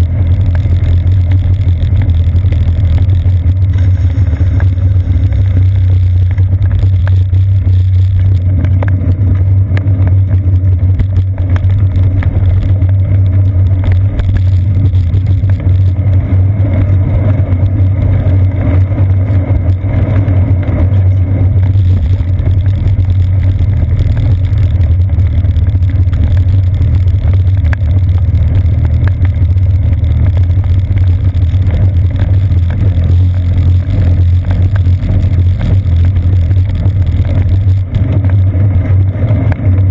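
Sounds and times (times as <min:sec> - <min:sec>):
bicycle ride rumble: 0:00.0 - 0:39.9
wind: 0:00.0 - 0:39.9.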